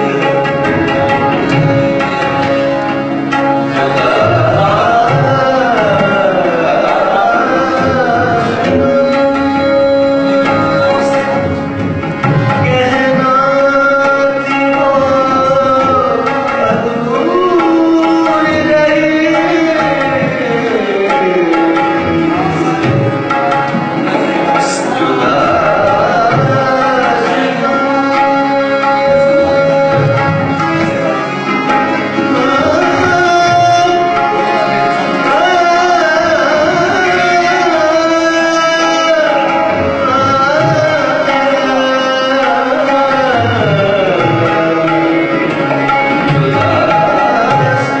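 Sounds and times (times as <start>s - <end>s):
sliding melody of held notes: 0.0s - 48.0s
tabla playing: 0.0s - 48.0s.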